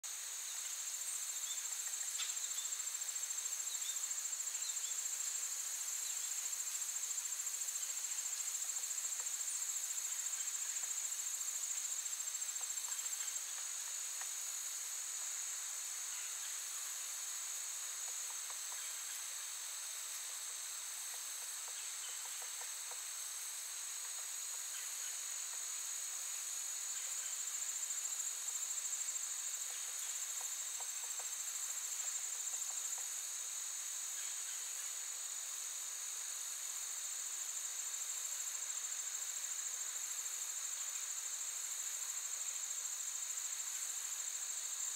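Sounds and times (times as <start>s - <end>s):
chorus of trilling insects: 0.1s - 44.9s.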